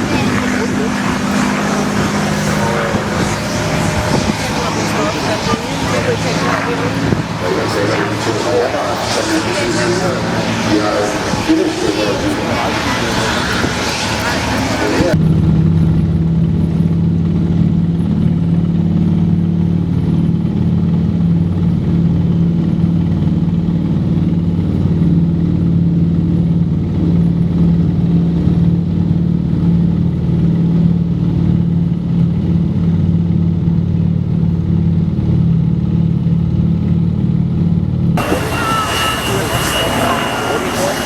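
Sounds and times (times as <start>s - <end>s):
aircraft engines droning: 0.0s - 41.0s.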